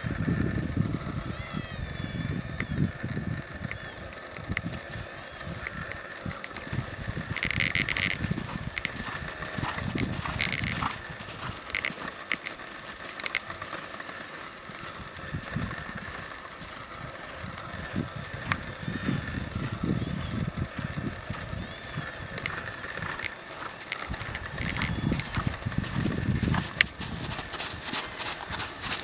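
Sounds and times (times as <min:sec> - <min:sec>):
hoofbeats in sand: 0:04.6 - 0:29.0.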